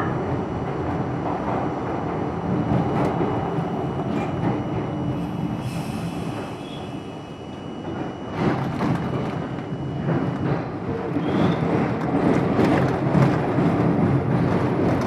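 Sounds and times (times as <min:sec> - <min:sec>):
sharp clack of train: 0:00.0 - 0:15.0
subway train wheels rattling on rail: 0:00.0 - 0:15.0.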